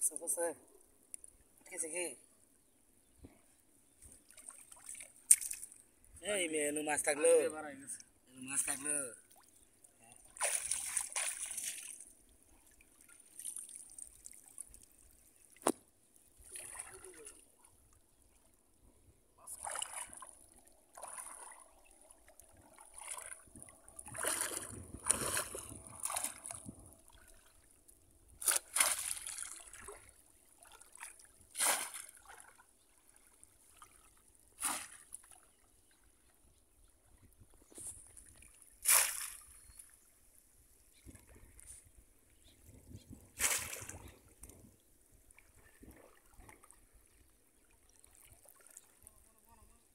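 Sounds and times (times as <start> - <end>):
water splashing and sloshing: 3.2 - 6.1, 7.0 - 49.3.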